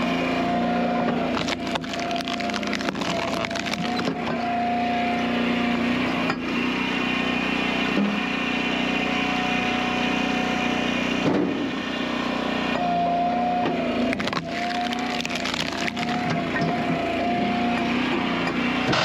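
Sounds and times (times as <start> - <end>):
log splitter engine running: 0.0 - 19.0.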